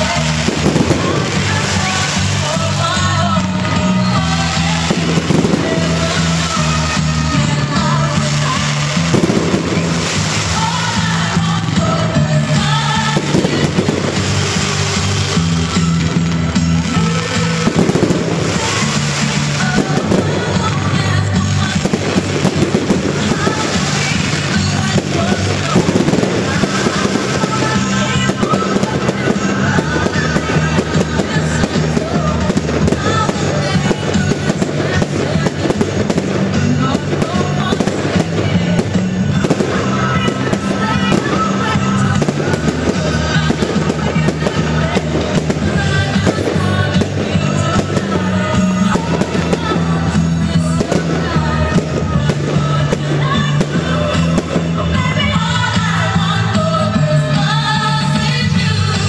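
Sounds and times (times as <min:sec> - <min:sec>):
fireworks bursting and crackling: 0:00.0 - 0:59.0
music playing: 0:00.0 - 0:59.0.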